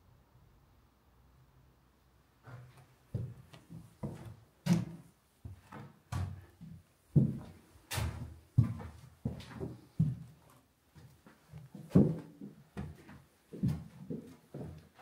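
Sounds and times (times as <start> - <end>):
footsteps on hard floor: 2.5 - 14.9.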